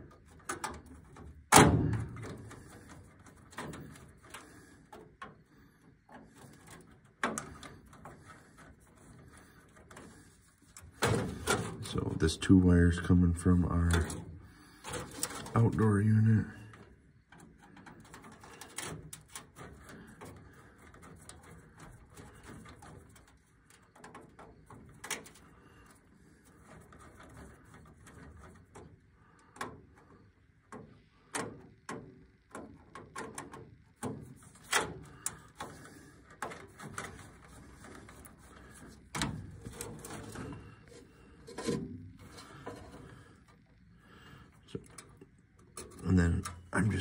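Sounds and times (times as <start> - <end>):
wires clicking and tapping: 0.0 - 47.0.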